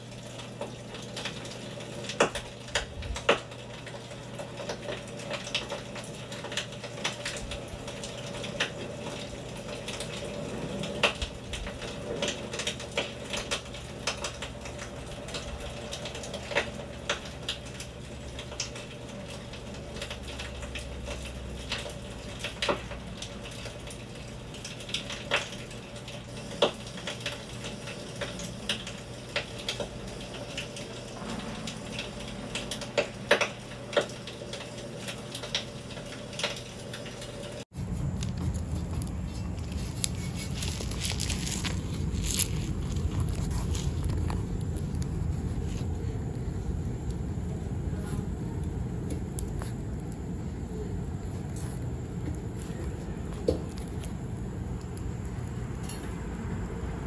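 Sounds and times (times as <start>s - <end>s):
campfire crackling and popping: 0.0s - 57.0s
faint steady hum: 0.0s - 57.0s.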